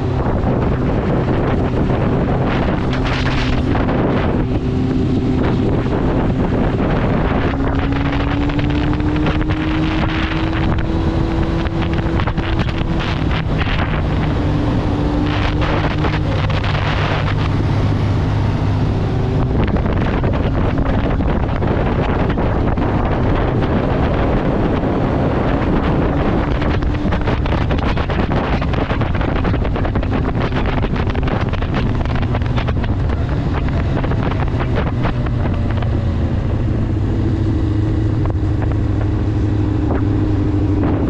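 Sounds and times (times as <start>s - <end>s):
motorcycle engine running: 0.0s - 41.0s
wind buffeting on microphone: 0.0s - 41.0s.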